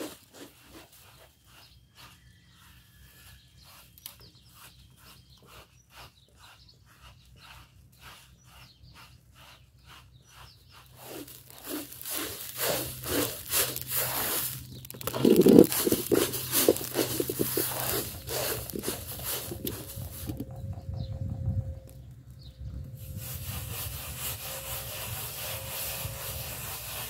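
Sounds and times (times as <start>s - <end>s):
grains scraped in metal pan: 0.0s - 20.6s, 23.0s - 27.0s.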